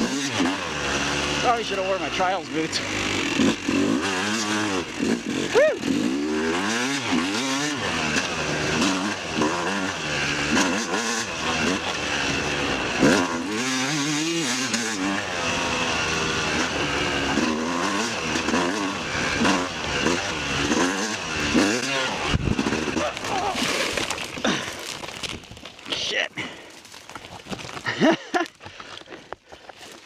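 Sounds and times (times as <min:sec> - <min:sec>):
dirt bike engine revving: 0:00.0 - 0:24.8.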